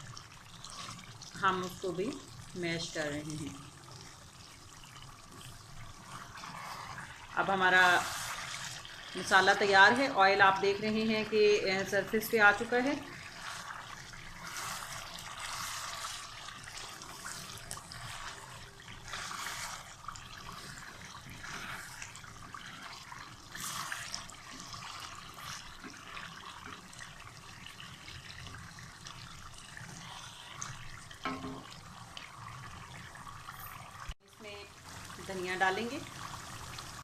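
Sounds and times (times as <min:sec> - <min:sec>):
masala sizzling in oil: 0:00.0 - 0:37.0.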